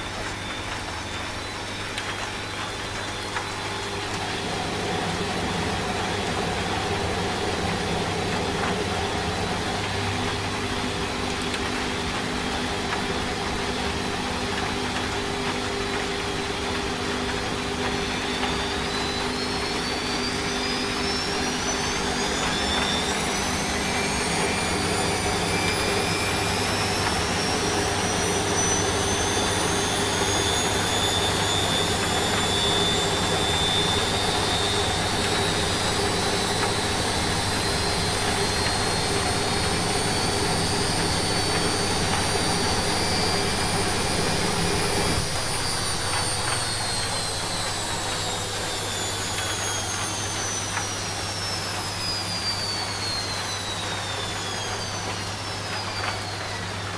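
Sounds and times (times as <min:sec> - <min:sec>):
washing machine running: 0:00.0 - 0:56.9.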